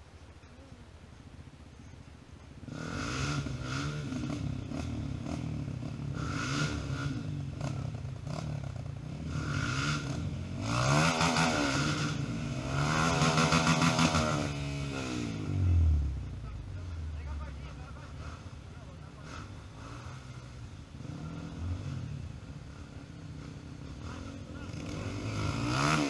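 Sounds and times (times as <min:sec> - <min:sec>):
motorcycle engine revving: 0:02.6 - 0:26.0.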